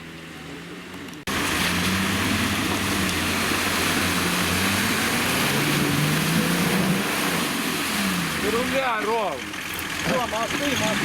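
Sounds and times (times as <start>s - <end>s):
vehicle engine running hard: 0.0s - 11.0s.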